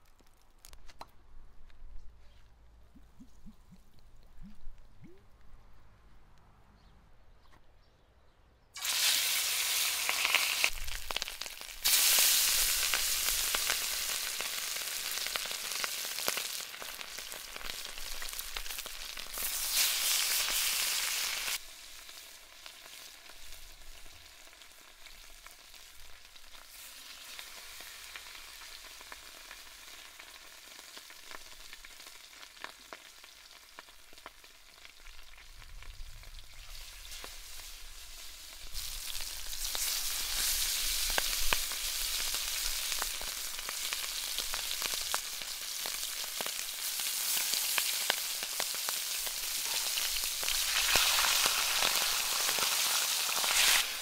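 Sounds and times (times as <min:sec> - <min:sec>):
fish sizzling in hot oil: 0:08.8 - 0:54.0.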